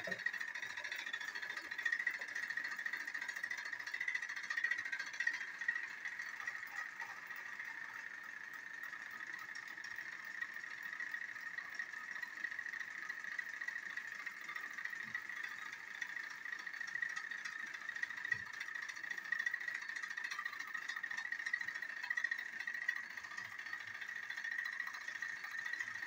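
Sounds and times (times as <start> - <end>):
toy train motors whirring: 0.0 - 26.0.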